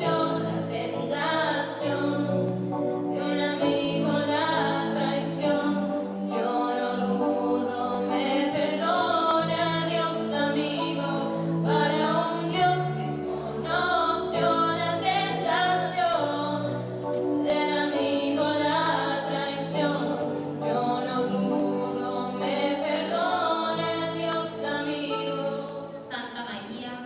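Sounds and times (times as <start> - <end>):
voices singing: 0.0 - 26.8.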